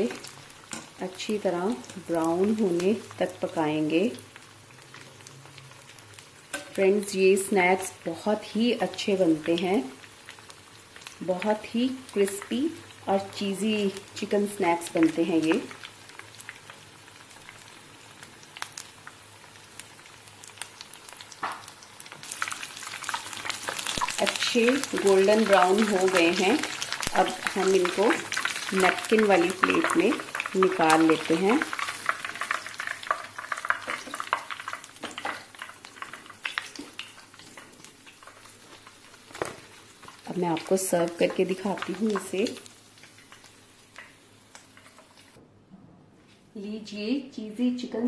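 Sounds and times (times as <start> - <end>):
food deep-frying in oil: 0.0 - 45.4.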